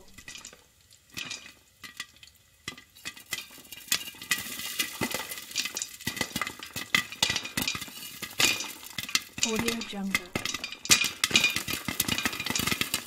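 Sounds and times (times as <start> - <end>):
hissing sizzle: 0.0 - 13.0
popcorn popping: 0.0 - 13.0.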